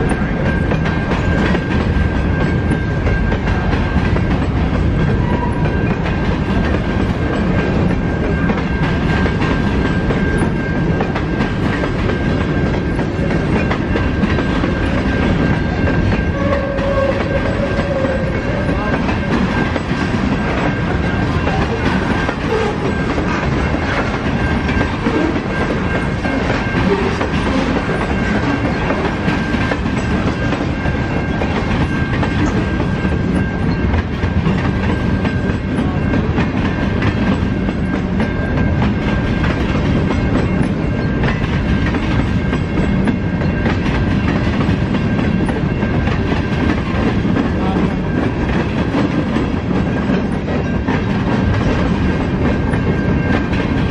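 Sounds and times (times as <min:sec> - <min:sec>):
train wheels rumbling and clacking: 0:00.0 - 0:53.9.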